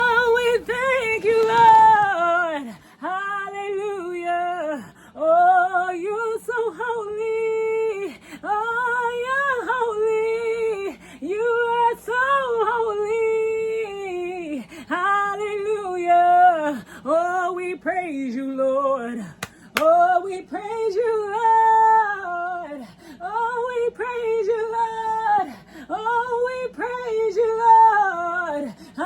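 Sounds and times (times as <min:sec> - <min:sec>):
faint low hum: 0:00.0 - 0:29.0
woman singing unaccompanied: 0:00.0 - 0:29.0.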